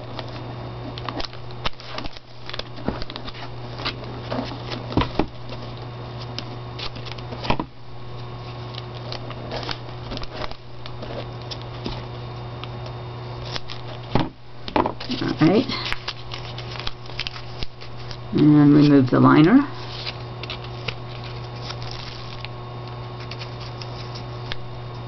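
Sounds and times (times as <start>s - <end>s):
paper rustling: 0.0s - 7.5s, 8.2s - 12.2s, 13.4s - 14.2s, 15.0s - 19.2s, 19.8s - 24.6s
steady low hum: 0.0s - 25.0s.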